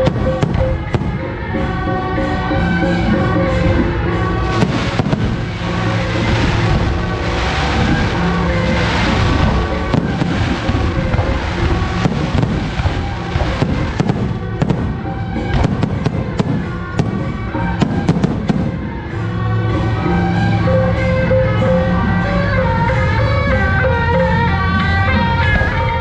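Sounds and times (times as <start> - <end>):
firecrackers banging: 0.0 - 26.0
loud music: 0.0 - 26.0.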